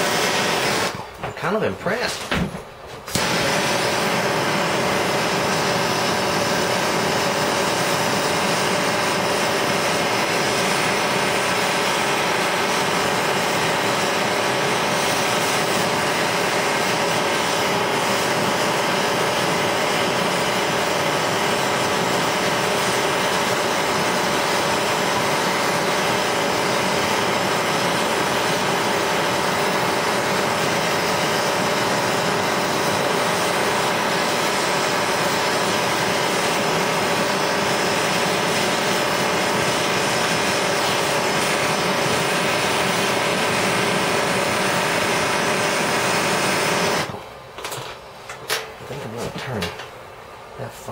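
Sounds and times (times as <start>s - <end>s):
torch flame hissing: 0.0s - 1.2s, 3.0s - 47.3s
camp stove burner running: 0.0s - 50.9s.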